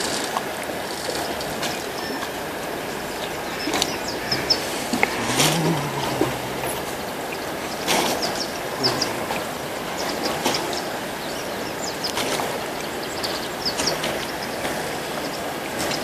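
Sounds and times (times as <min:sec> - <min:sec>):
water lapping around boats: 0:00.0 - 0:16.0.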